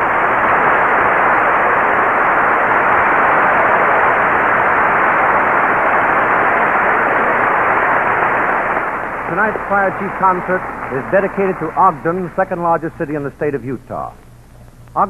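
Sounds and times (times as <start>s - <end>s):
dull radio hiss: 0.0s - 15.0s.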